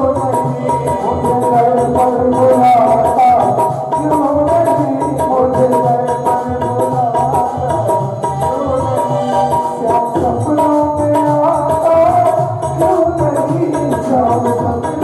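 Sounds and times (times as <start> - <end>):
hand drums beat: 0.0 - 15.0
wavering melody line: 0.0 - 15.0.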